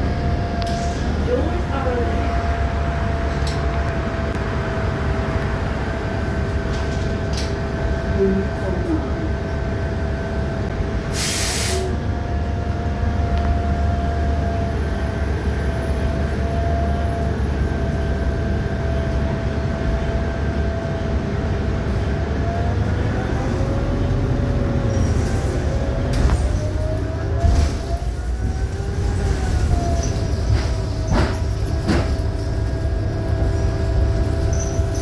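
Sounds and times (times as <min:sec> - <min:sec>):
bus interior engine rumble: 0:00.0 - 0:35.0.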